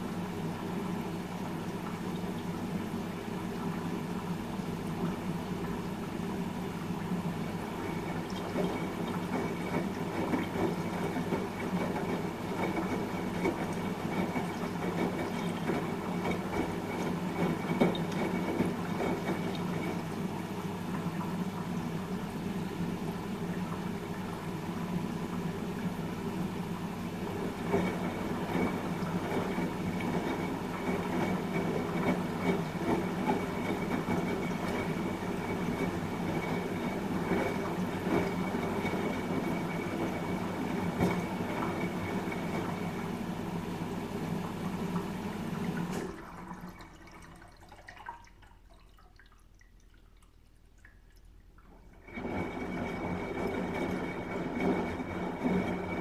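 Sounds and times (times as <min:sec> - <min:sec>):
washing machine hum: 0:00.0 - 0:56.0.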